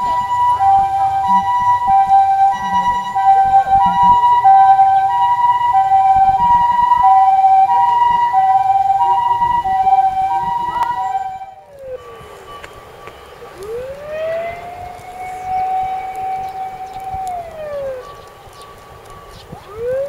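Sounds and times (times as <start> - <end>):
road rumble: 0.0 - 20.0
two-tone ambulance siren: 0.0 - 20.0.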